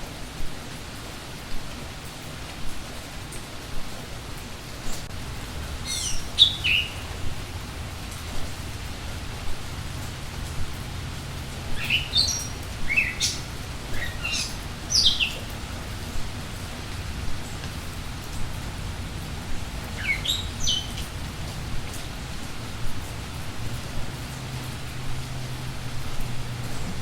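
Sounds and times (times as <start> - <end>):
steady rain: 0.0 - 27.0
songbirds chirping: 4.9 - 27.0.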